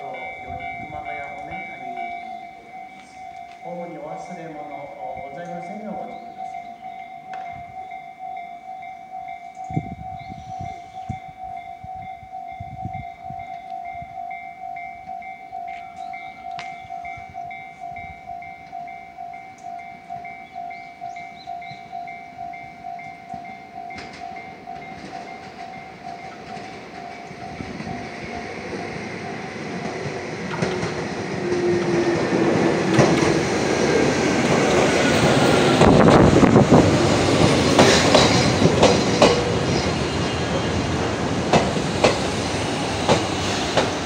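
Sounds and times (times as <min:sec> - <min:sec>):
warning bell ringing: 0:00.0 - 0:35.8
electric train arriving with whine: 0:00.0 - 0:44.0.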